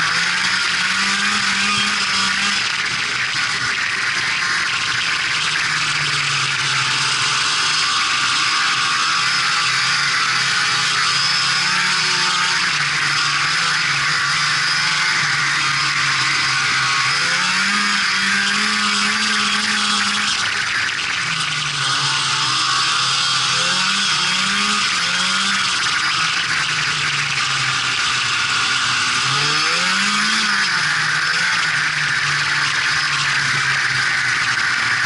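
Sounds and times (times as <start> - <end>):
snowmobile engine running: 0.0 - 35.0.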